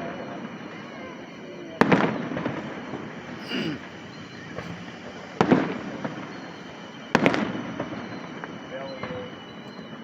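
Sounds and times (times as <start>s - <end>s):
fireworks booming: 1.8s - 10.0s.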